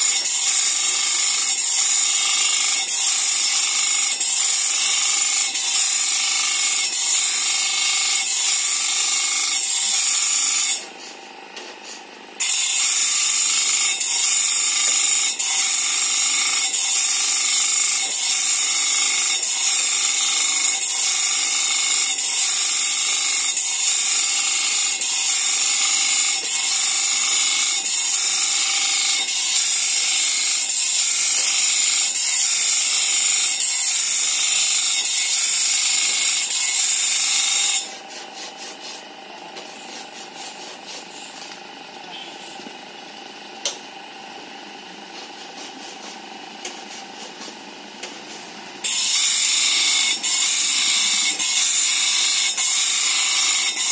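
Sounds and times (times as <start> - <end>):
bench grinder grinding saw blade: 0.0 - 53.9.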